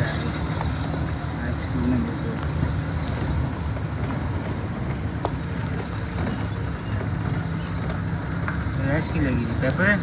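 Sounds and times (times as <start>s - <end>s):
car driving on rough road: 0.0s - 10.0s.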